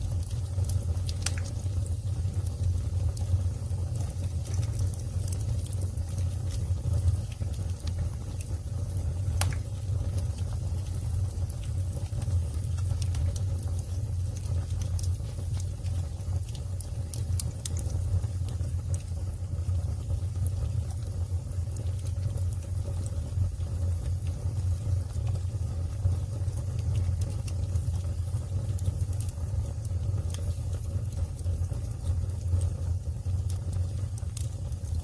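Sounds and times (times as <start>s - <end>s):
fire crackling and popping: 0.0s - 35.0s
fire low rumble: 0.0s - 35.0s.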